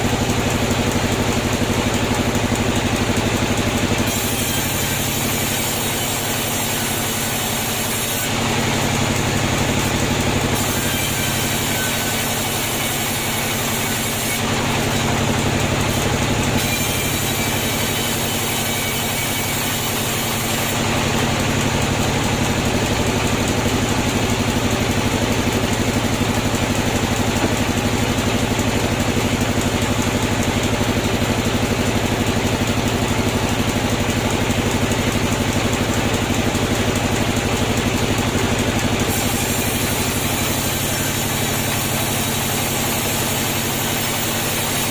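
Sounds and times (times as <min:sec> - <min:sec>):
sawmill machinery whirring: 0:00.0 - 0:44.9.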